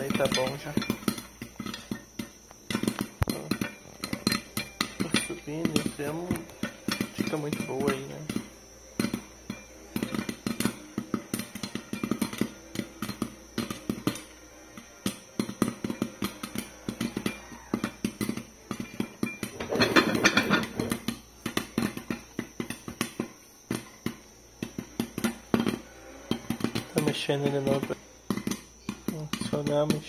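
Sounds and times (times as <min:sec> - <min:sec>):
popcorn popping in a pot: 0:00.0 - 0:30.0.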